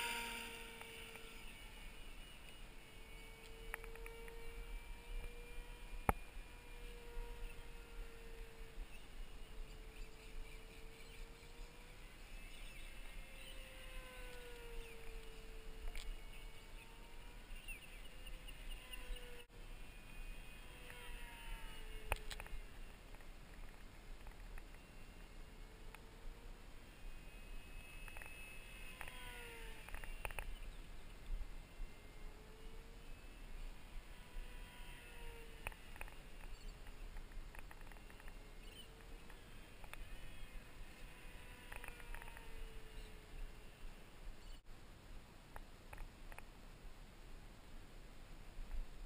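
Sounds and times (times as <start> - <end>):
model plane motor whining: 0.0 - 44.6.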